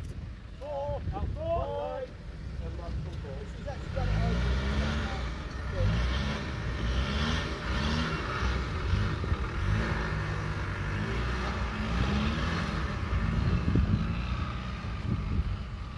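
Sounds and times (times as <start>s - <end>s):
diesel engine revving under load: 2.3s - 15.9s.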